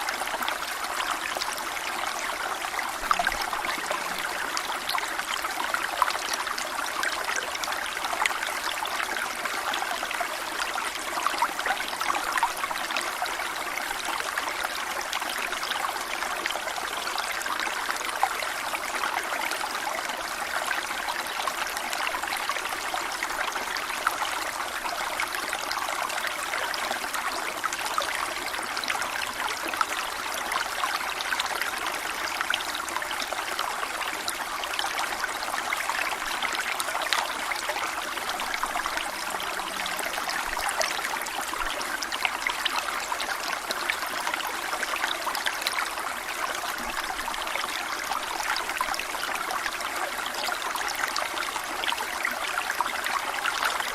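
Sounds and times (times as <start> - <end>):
waterfall splashing and trickling: 0.0 - 53.9.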